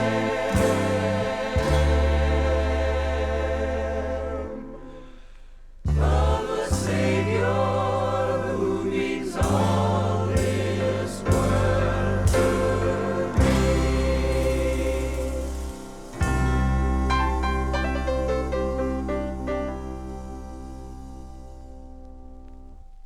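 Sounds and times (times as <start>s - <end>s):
gospel choir singing: 0.0s - 21.0s
band with deep bass: 0.0s - 23.0s.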